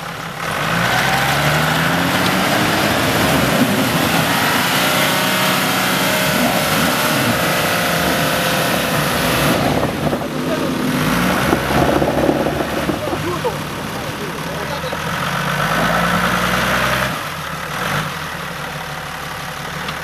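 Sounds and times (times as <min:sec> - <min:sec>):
engine revving: 0:00.0 - 0:20.0
tyres churning in mud: 0:00.0 - 0:20.0.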